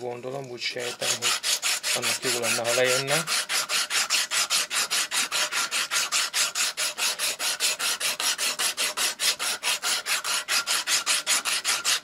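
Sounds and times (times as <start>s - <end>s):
abrasive cloth rasping on metal: 0.6s - 12.0s.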